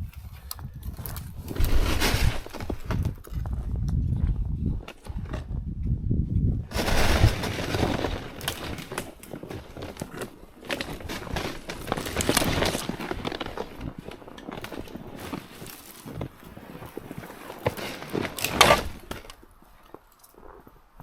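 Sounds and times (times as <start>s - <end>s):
footsteps crunching on crusted snow: 0.2s - 5.2s, 6.7s - 20.5s.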